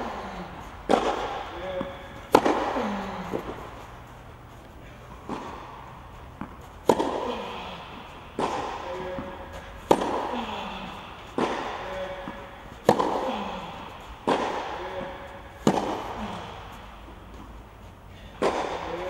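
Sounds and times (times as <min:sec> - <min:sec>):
tennis ball struck by rackets: 0:00.0 - 0:17.5, 0:18.3 - 0:19.0.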